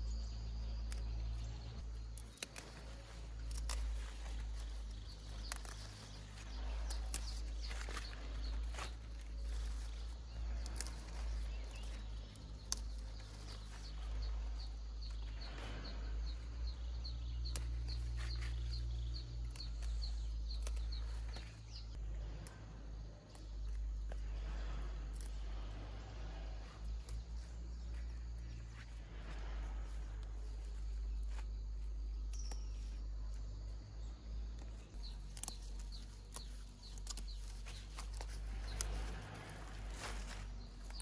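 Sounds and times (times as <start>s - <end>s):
steady low rumble: 0.0s - 41.0s
stems snapping and leaves rustling: 0.6s - 26.0s, 26.6s - 33.8s, 34.4s - 41.0s.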